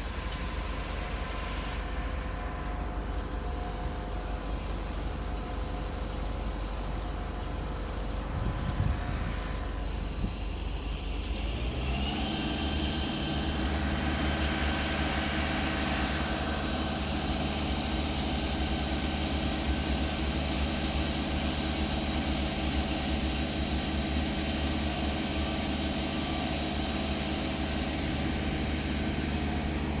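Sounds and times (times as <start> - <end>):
diesel locomotive engine running: 0.0 - 30.0.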